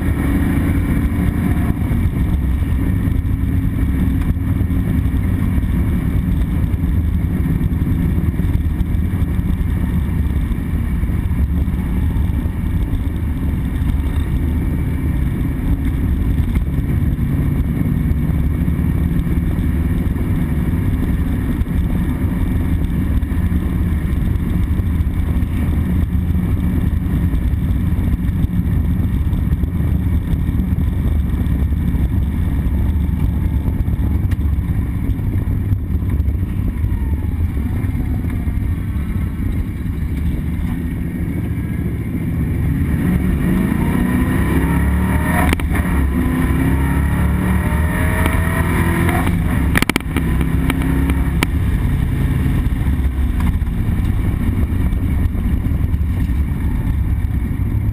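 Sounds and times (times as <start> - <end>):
car engine under hard throttle: 0.0 - 57.9.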